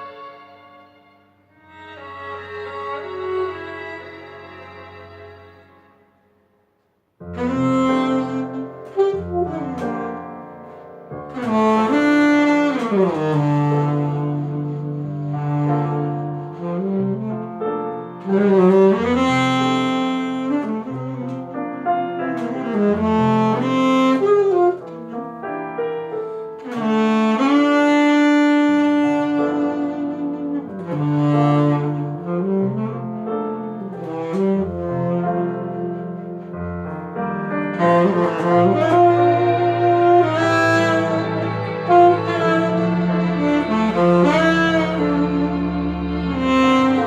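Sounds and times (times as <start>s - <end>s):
bowed strings: 0.0s - 6.5s, 7.2s - 47.0s
piano: 0.0s - 47.0s
saxophone melody: 7.2s - 47.0s.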